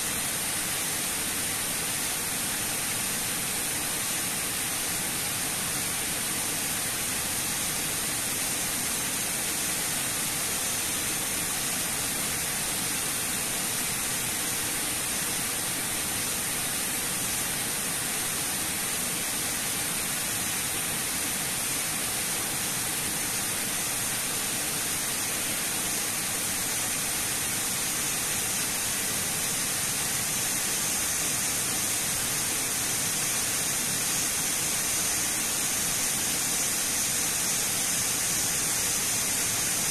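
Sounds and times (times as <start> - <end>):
water rushing down dam spillway: 0.0 - 39.9.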